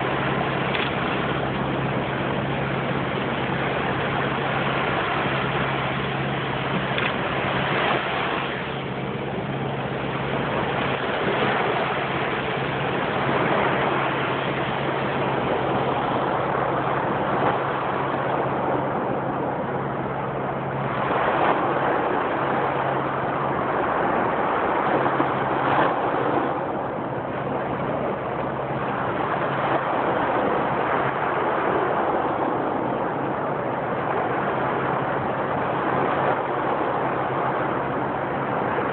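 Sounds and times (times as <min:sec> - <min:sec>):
small waves breaking on shore: 0:00.0 - 0:38.9
steady low hum: 0:00.0 - 0:38.9.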